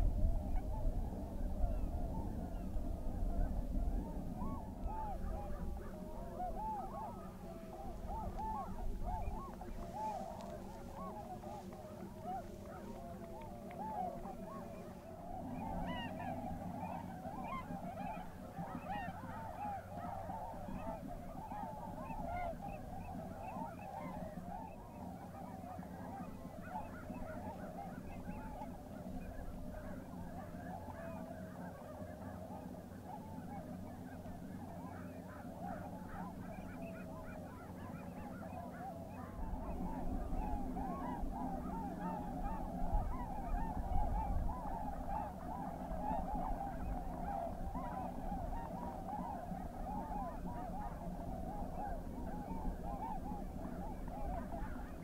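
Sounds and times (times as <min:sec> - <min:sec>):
flock of swans calling: 0:00.0 - 0:55.0.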